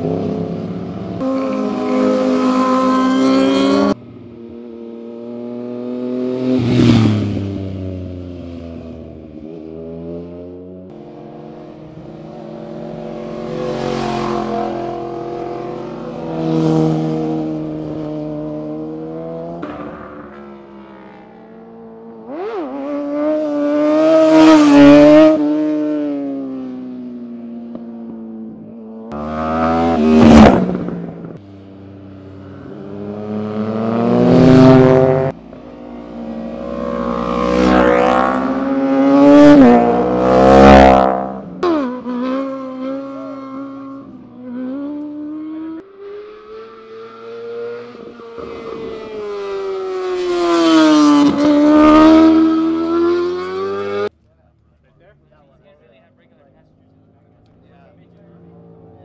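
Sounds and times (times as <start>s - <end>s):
motorcycles passing: 0.0s - 59.0s.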